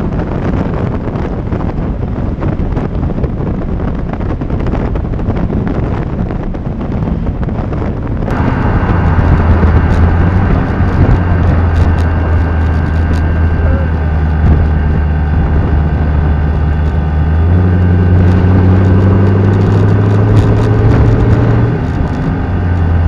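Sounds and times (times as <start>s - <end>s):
car engine running: 0.0s - 23.0s
wind buffeting microphone: 0.0s - 23.0s.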